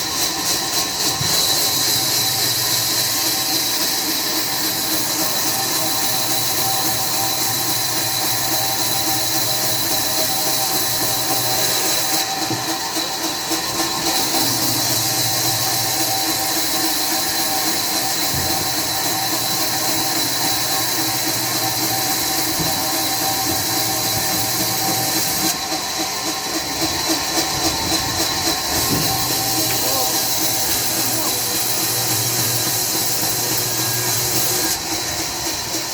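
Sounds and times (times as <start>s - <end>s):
sawmill machinery hissing and whining: 0.0s - 35.9s.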